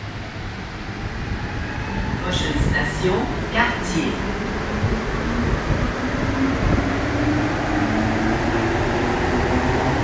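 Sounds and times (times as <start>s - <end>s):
train car low rumble: 0.0s - 10.0s.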